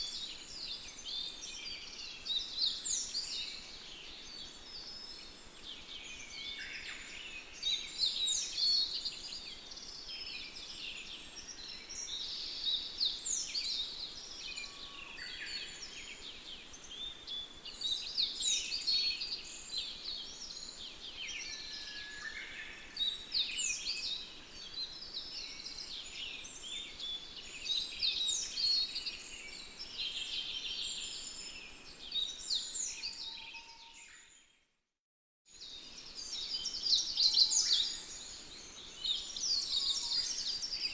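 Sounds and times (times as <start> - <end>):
faint background hiss: 0.0 - 33.2, 35.5 - 40.9
songbirds chirping and singing: 0.0 - 34.5, 35.6 - 40.9.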